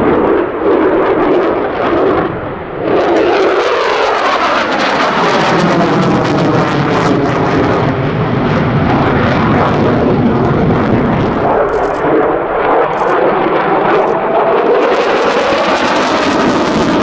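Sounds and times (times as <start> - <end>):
jet engine roar overhead: 0.0 - 17.0.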